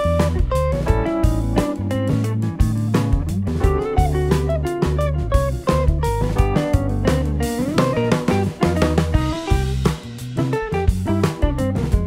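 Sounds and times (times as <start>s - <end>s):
band music with drums and guitar: 0.0s - 12.0s.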